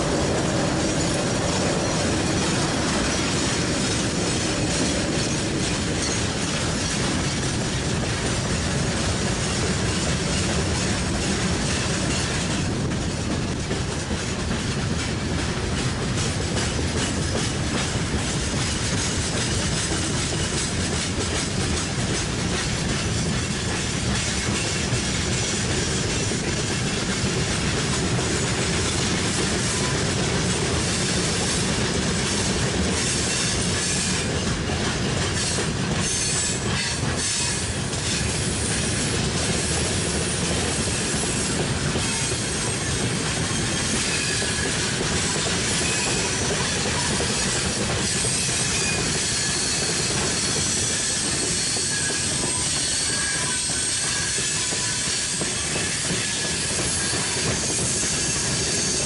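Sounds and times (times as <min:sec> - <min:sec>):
freight train wheels clattering: 0:00.0 - 0:59.0
train wheel squeal: 0:00.0 - 0:59.0.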